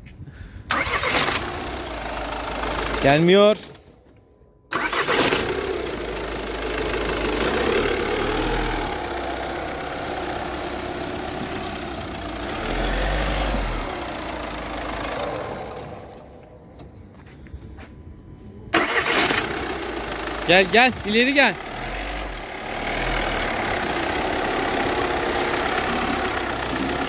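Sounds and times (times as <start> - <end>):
diesel engine starting and idling: 0.3 - 27.0.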